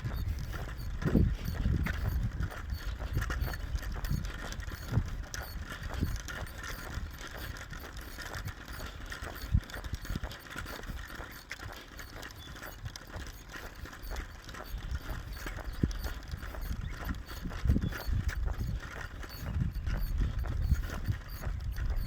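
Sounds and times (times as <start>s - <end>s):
footsteps walking on a path: 0.0s - 22.0s
measuring wheel clicking: 0.0s - 22.0s.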